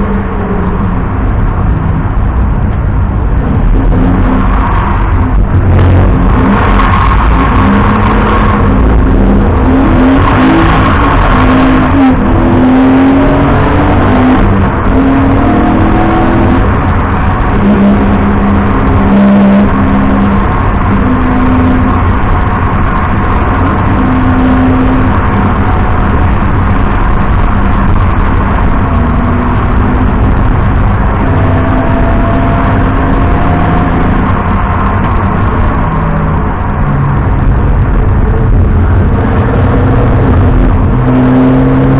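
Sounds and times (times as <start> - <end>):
car engine revving: 0.0 - 41.9
road and wind noise: 0.0 - 41.9.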